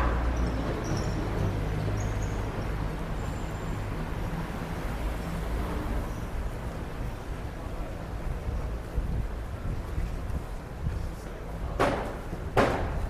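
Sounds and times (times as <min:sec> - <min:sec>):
outdoor street noise: 0:00.0 - 0:13.0.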